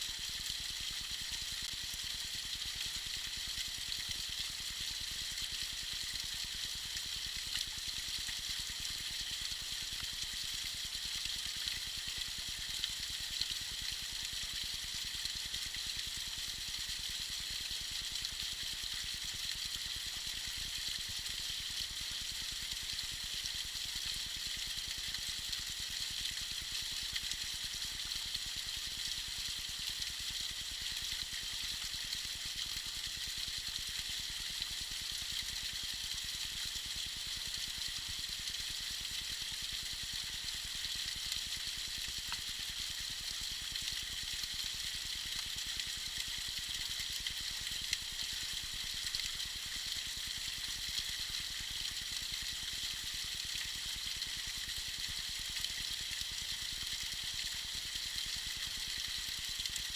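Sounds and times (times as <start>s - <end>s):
water trickling and splashing: 0.1s - 59.9s.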